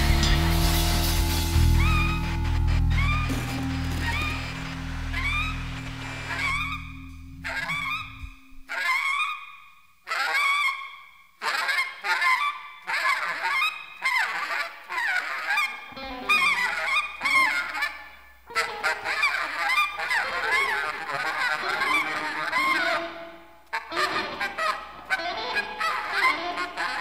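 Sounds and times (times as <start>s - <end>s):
free jazz honking and squealing: 0.0s - 10.8s, 11.4s - 27.0s.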